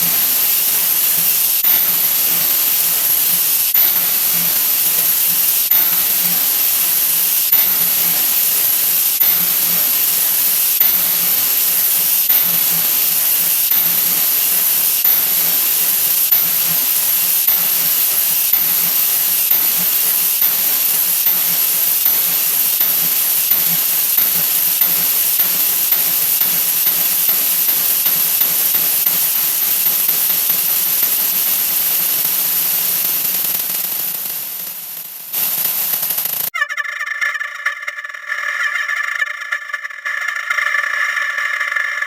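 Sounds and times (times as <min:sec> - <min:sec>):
sped-up sound effect hiss: 0:00.0 - 0:36.5.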